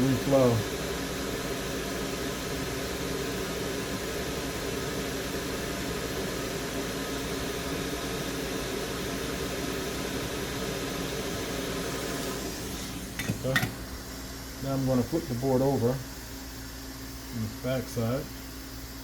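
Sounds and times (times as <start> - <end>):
extractor fan: 0.0 - 19.0
hot air blower hissing: 0.0 - 19.0.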